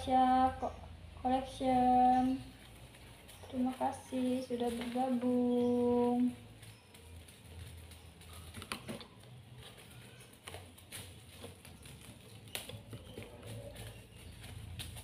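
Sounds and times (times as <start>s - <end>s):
low steady hum: 0.0s - 15.0s
kittens tapping and rustling cables: 1.8s - 15.0s.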